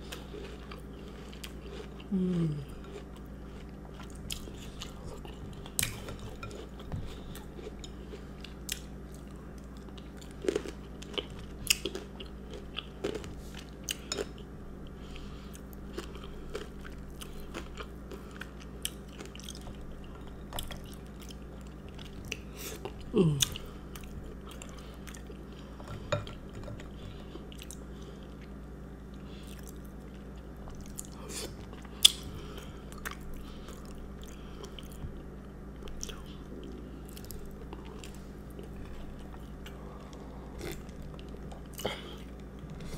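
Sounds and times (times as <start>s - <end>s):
chewing with crunches: 0.0s - 42.9s
steady low hum: 0.0s - 42.9s.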